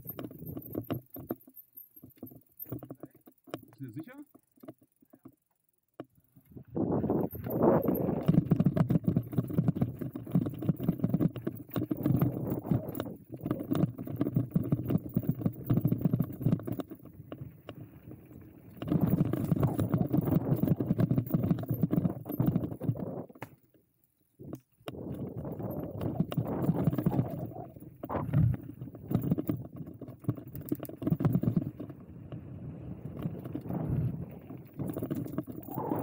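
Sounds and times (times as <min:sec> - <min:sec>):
bike knocking and rattling: 0:00.0 - 0:23.8, 0:24.5 - 0:36.0.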